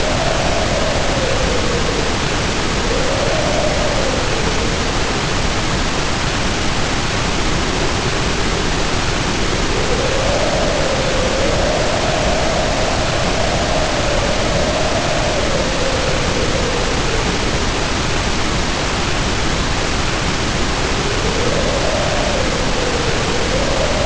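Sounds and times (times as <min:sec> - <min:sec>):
heavy rain pouring: 0:00.0 - 0:24.0
howling wind: 0:00.0 - 0:24.0.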